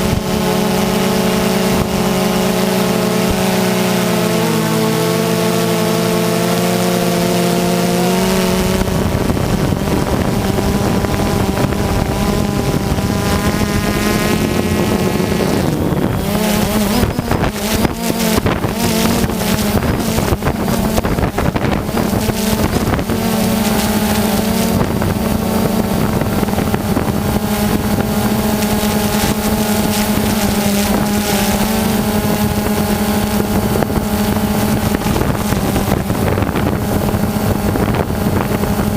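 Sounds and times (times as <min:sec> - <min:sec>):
high-revving model engine: 0:00.0 - 0:38.9
wind buffeting microphone: 0:00.0 - 0:38.9.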